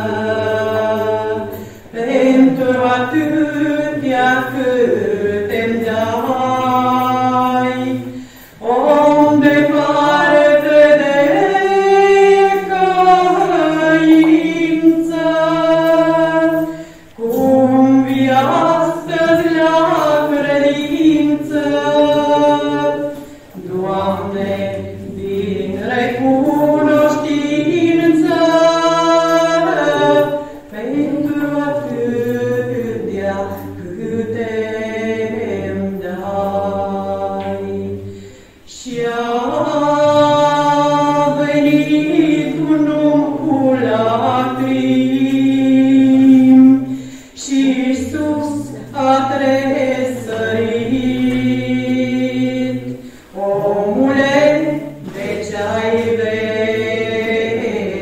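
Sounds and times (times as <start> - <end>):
choir singing unaccompanied hymn: 0.0 - 58.0.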